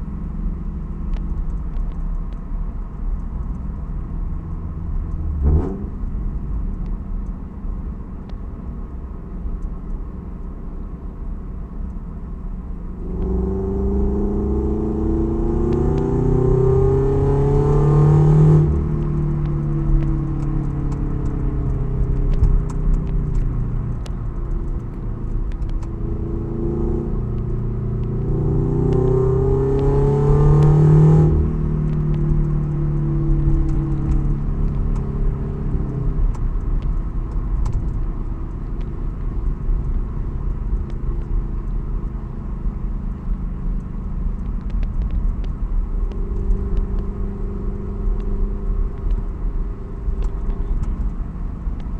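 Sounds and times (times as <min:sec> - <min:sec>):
low road rumble: 0:00.0 - 0:51.9.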